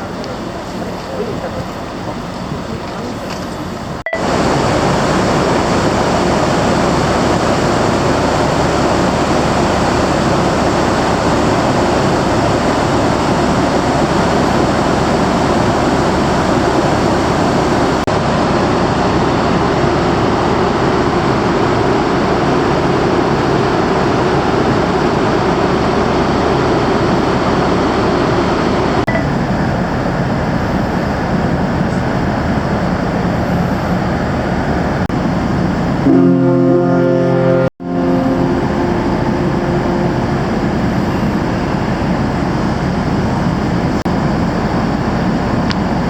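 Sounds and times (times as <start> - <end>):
rushing and rumbling noise: 0.0 - 46.0
low hum: 3.0 - 46.0.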